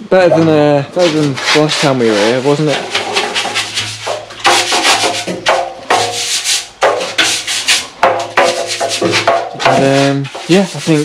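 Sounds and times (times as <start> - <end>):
scraping inside mixer drum: 0.3 - 11.0.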